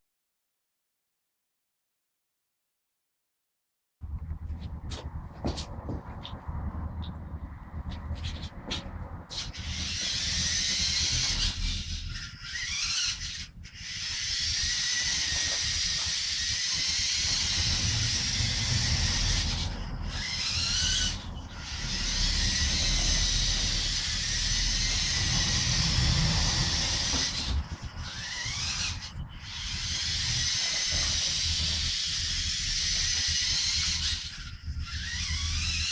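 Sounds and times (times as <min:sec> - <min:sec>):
toy motor and gears whining: 0:05.4 - 0:35.9.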